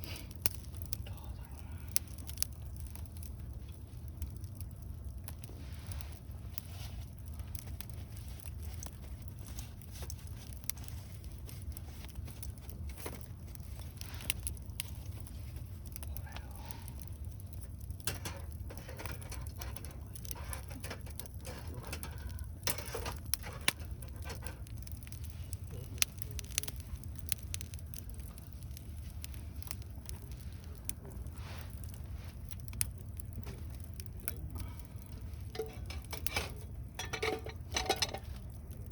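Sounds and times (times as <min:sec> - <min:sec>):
campfire crackling: 0:00.0 - 0:38.9
campfire snaps and pops: 0:00.0 - 0:38.9
low rumble of fire: 0:00.0 - 0:38.9.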